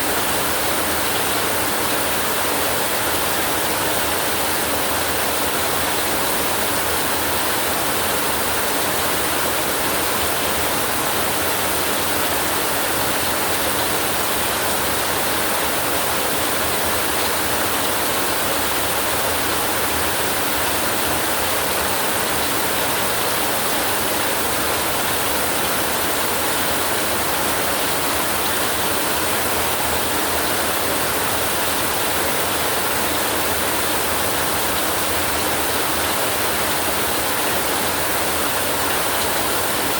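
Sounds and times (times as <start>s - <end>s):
steady heavy rain: 0.0s - 39.9s.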